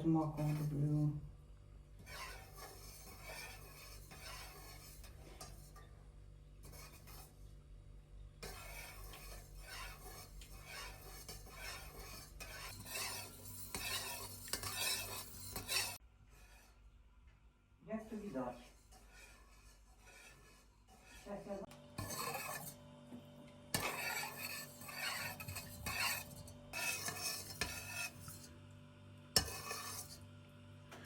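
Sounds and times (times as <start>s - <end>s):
spoon stirring in bowl: 0.2s - 1.0s, 2.0s - 7.5s, 8.4s - 16.9s, 18.2s - 28.6s, 29.2s - 30.3s.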